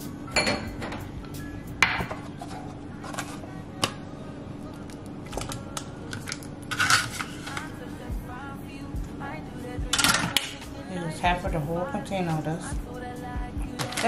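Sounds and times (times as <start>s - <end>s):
light background music: 0.0s - 14.0s.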